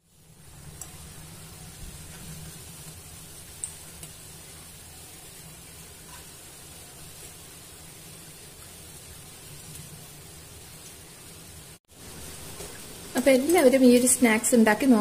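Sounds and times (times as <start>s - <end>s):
snacks sizzling in hot oil: 0.0s - 15.0s.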